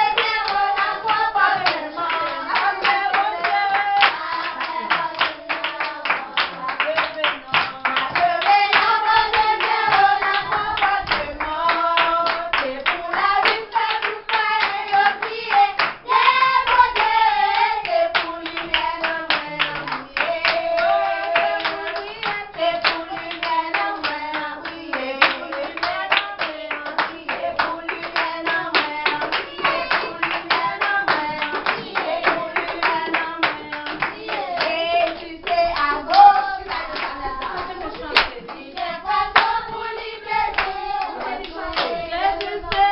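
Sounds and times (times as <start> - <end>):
children singing in unison: 0.0 - 6.8, 7.5 - 42.9
rhythmic hand clapping: 0.0 - 42.9.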